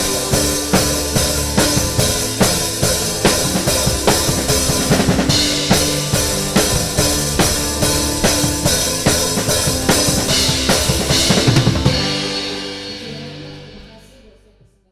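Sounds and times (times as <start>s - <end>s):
drum kit playing a beat: 0.0s - 13.9s
cymbals ringing: 0.0s - 14.0s
worship band playing: 0.0s - 14.2s.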